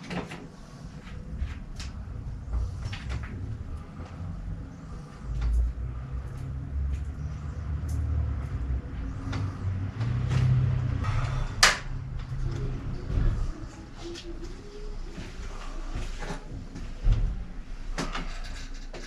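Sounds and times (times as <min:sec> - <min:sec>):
low rumble: 0:00.5 - 0:18.7.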